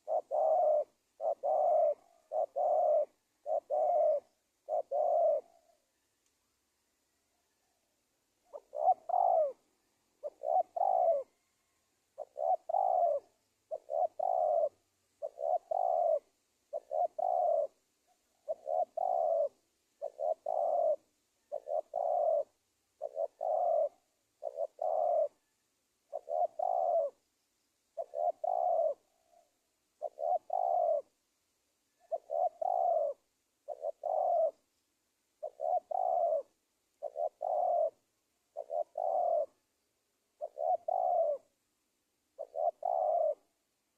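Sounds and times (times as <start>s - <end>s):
dove cooing: 0.0s - 6.0s, 7.3s - 27.3s, 27.9s - 31.2s, 31.9s - 34.8s, 35.4s - 41.6s, 42.3s - 43.6s.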